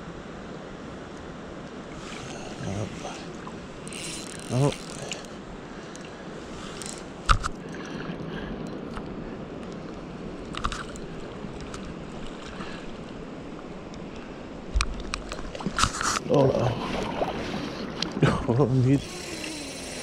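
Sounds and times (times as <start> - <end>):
creek water flowing: 1.7 - 20.0.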